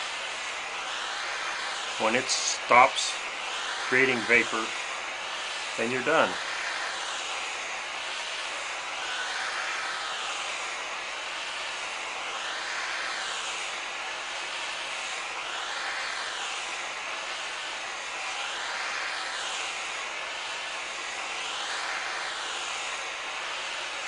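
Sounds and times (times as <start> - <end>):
propane torch hissing: 0.0 - 24.0.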